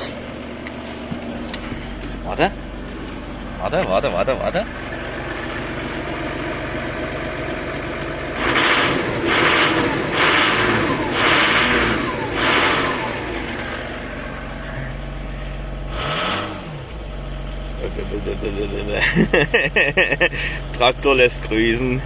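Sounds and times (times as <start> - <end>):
diesel engine idling and revving: 0.0 - 22.0.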